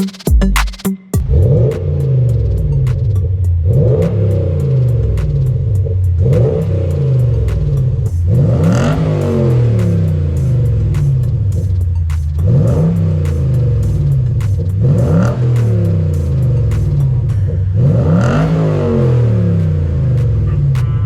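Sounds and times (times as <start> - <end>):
background music with beat: 0.0 - 21.0
car engine revving: 1.2 - 21.0.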